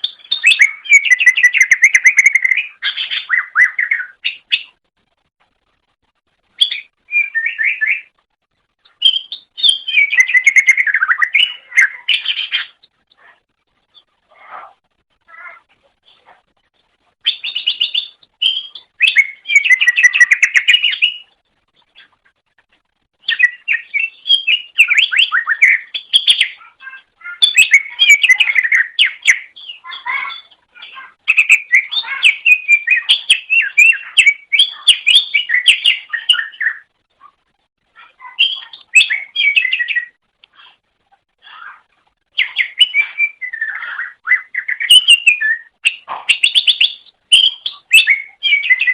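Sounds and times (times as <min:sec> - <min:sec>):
bird singing chattering song: 0:00.0 - 0:04.8, 0:06.6 - 0:08.2, 0:08.8 - 0:14.1, 0:17.2 - 0:22.2, 0:23.2 - 0:36.9, 0:38.0 - 0:40.8, 0:41.5 - 0:48.9.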